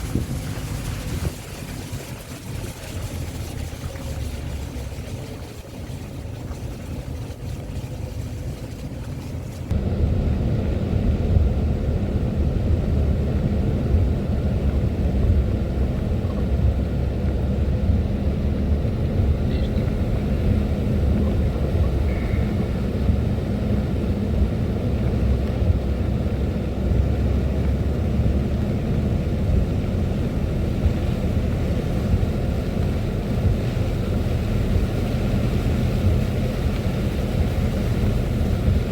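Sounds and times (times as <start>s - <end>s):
vehicle engine and road noise: 0.0s - 38.9s.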